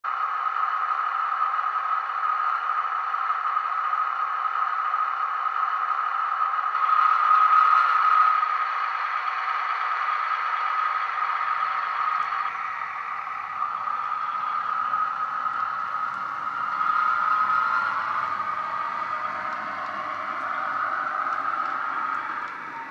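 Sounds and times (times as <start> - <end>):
diesel engine hum from speaker: 0.1 - 22.9
faint low rattle on track: 0.1 - 22.9.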